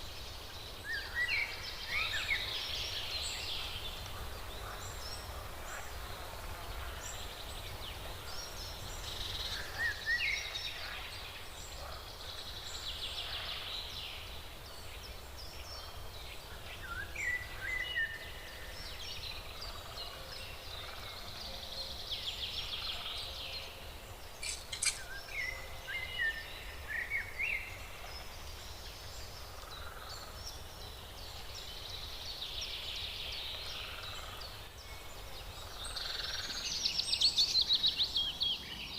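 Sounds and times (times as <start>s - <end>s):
outdoor background noise: 0.0s - 38.9s
wild birds chirping and trilling: 0.0s - 38.9s.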